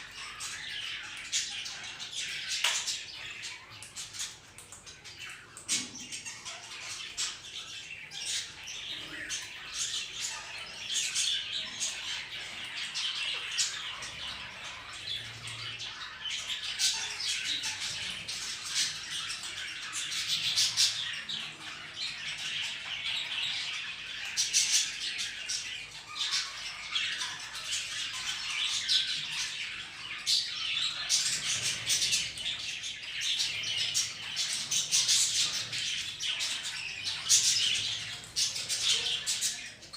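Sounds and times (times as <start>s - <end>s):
budgerigars and parrot chirping: 0.0s - 39.9s.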